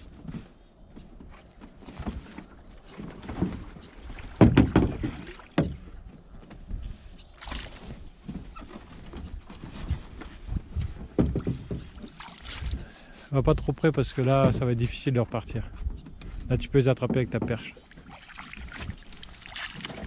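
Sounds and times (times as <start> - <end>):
water sloshing from poling boat: 0.0 - 20.0.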